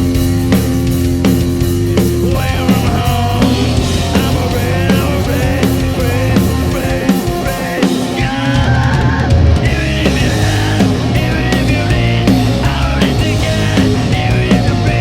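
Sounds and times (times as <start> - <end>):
drum kit: 0.0 - 15.0
live rock band playing: 0.0 - 15.0
person singing: 2.2 - 15.0.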